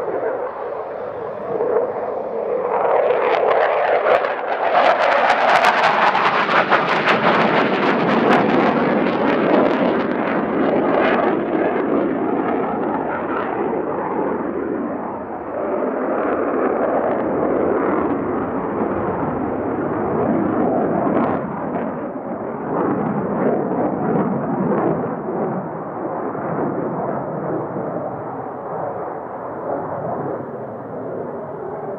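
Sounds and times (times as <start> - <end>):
jet fighter roaring in flight: 0.0 - 31.9.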